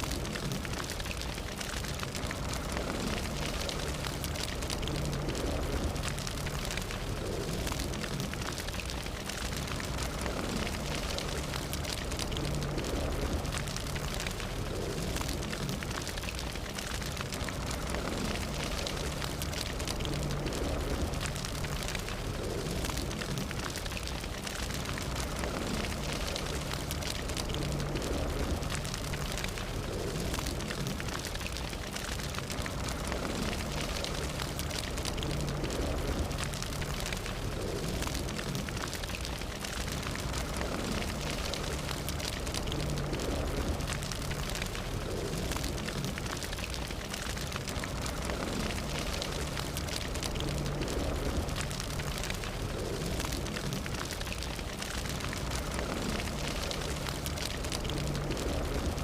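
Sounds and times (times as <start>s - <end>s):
fire crackling: 0.0s - 59.0s
low rumble of fire: 0.0s - 59.0s.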